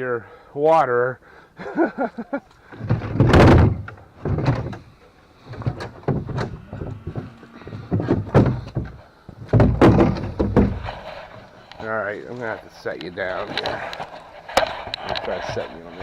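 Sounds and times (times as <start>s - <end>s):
objects thudding and scraping: 2.7s - 16.0s.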